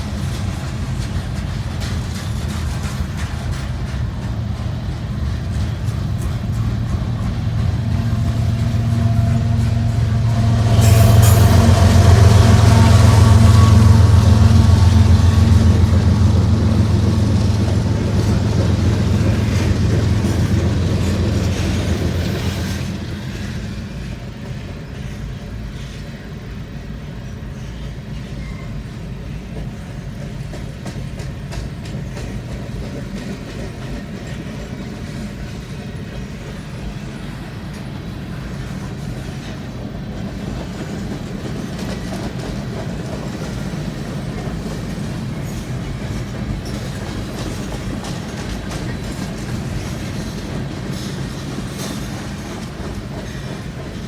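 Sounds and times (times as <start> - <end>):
freight train wheels clacking: 0.0 - 54.0.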